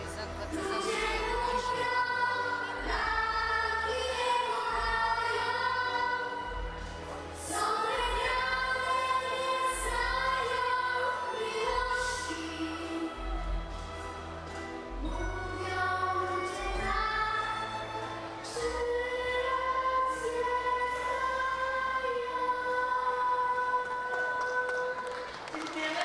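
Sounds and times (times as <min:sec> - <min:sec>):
musical accompaniment: 0:00.0 - 0:26.0
girls singing duet: 0:00.5 - 0:14.2, 0:15.0 - 0:26.0.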